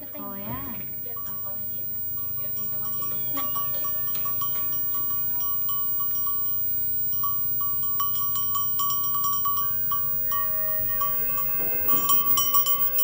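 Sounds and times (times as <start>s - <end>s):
goat bells clinking: 0.0s - 13.0s.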